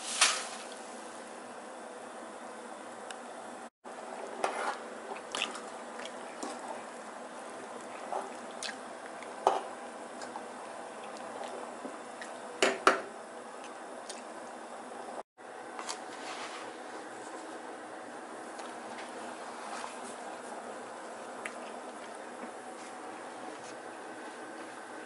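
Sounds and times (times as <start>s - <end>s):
water boiling and bubbling: 3.9s - 15.2s, 16.2s - 25.0s.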